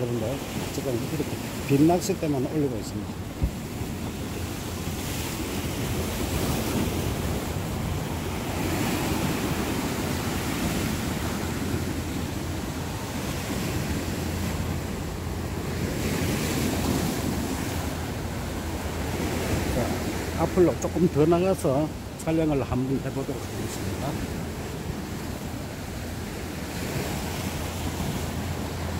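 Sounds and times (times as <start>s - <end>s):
wind rumbling on microphone: 0.0s - 28.9s.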